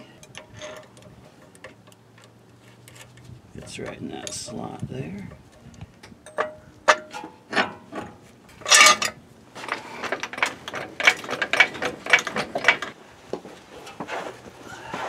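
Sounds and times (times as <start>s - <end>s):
tool handling clatter: 0.0s - 13.0s.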